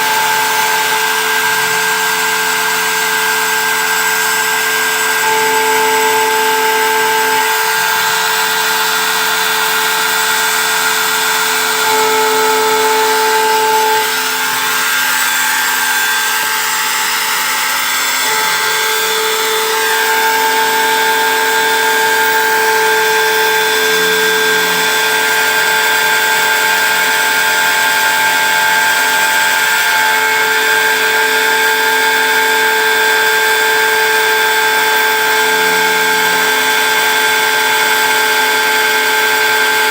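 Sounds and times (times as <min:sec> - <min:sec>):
engraving machine motor whine: 0:00.0 - 0:39.9.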